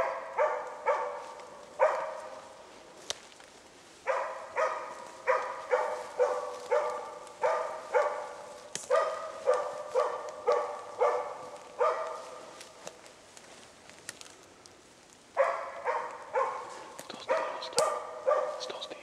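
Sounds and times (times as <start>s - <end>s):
dog barking: 0.0s - 2.7s, 4.0s - 13.0s, 15.3s - 19.0s.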